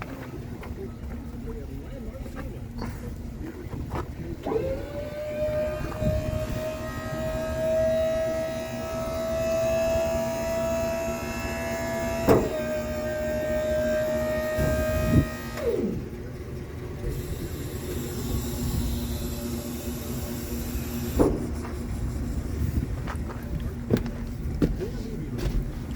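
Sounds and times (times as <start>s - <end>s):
engine idling hum: 0.0s - 25.9s
hydraulic pump whining: 2.8s - 25.9s.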